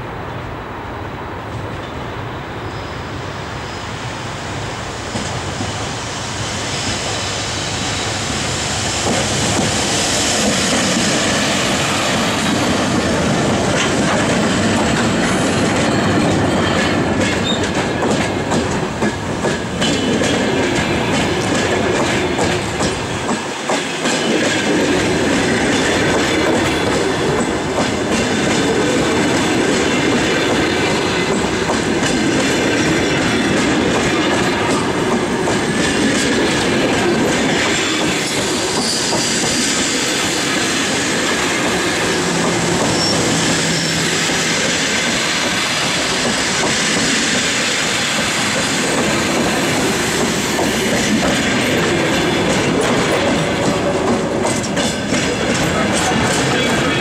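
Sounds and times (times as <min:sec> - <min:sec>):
electric locomotive passing: 0:00.0 - 0:57.0
train wheels clicking on rail joints: 0:05.0 - 0:57.0.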